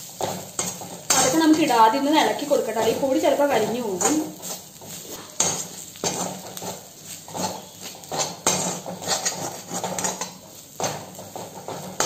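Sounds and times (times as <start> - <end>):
utensil scraping a pan: 0.0 - 12.0.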